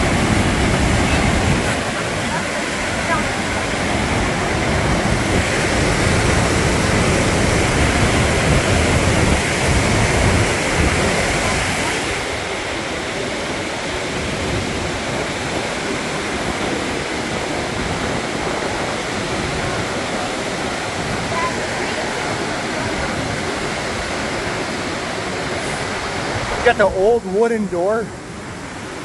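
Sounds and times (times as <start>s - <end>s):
deep water rumble: 0.0s - 29.0s
falling water rushing: 0.0s - 29.0s.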